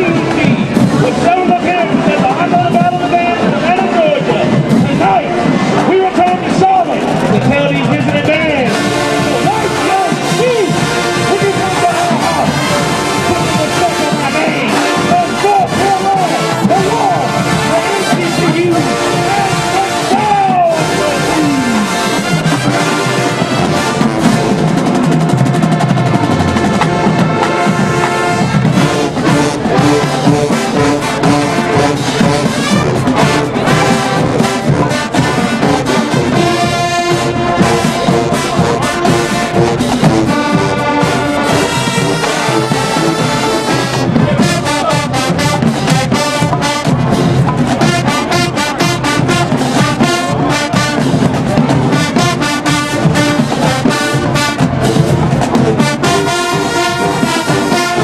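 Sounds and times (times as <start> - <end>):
brass section playing chords: 0.0 - 58.0
drum strokes: 0.0 - 58.0.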